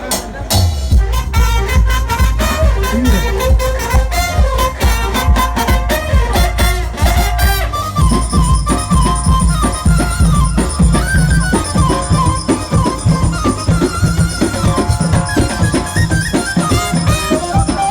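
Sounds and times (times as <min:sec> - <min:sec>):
heavy pulsing bass beat: 0:00.6 - 0:17.9
fast ornamented melody: 0:01.0 - 0:17.9.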